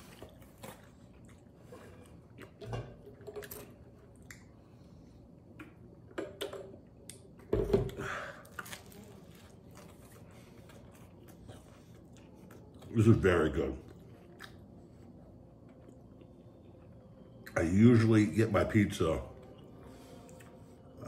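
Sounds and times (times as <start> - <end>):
eating and drinking: 0.0 - 21.0.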